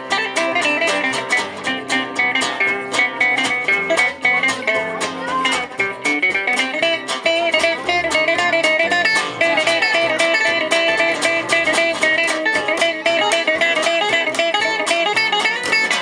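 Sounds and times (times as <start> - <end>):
gypsy jazz band playing: 0.0 - 16.0.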